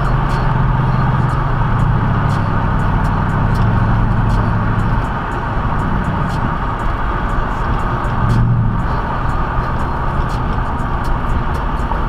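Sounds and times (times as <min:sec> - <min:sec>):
car engine drone from inside: 0:00.0 - 0:12.0
road noise: 0:00.0 - 0:12.0.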